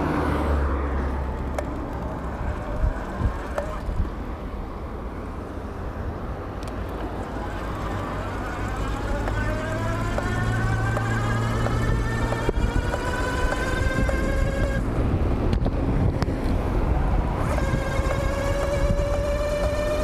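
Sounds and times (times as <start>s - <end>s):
wind rumble on microphone: 0.0s - 4.6s, 7.2s - 20.0s
electric bike motor whining: 0.7s - 4.8s, 6.6s - 20.0s.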